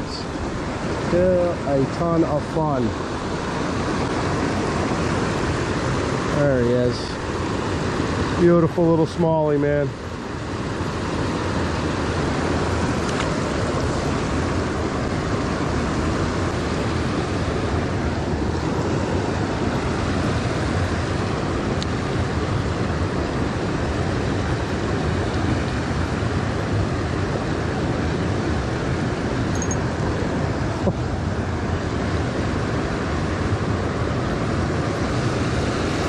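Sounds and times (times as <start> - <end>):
river riffle rushing: 0.0 - 36.0.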